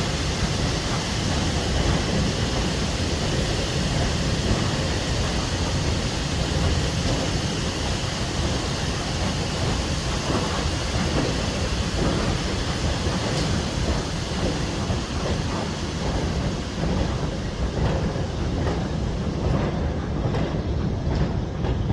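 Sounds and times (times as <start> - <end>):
rushing hiss: 0.0 - 21.6
train rumbling: 0.0 - 21.9.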